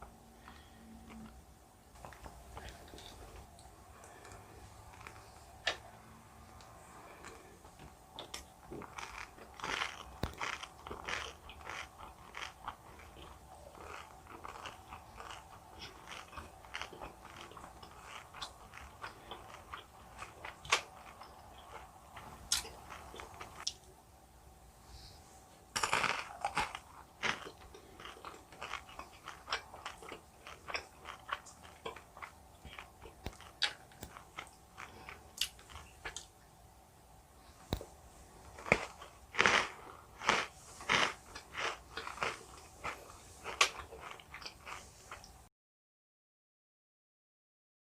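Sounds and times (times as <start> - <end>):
chewing jelly candies: 0.4 - 23.9, 25.7 - 36.4, 37.6 - 45.4.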